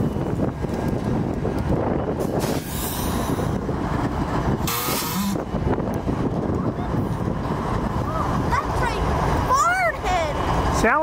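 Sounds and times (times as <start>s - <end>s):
wind buffeting microphone: 0.0s - 10.8s
diesel locomotives rumbling: 0.0s - 11.0s.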